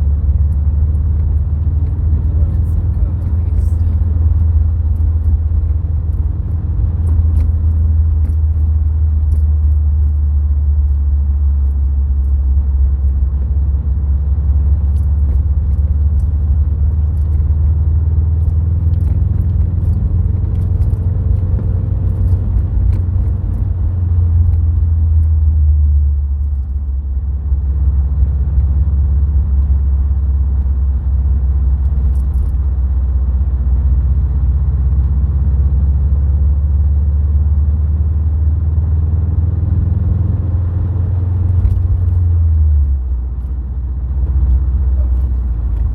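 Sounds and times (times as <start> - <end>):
car engine driving rumble: 0.0 - 45.9.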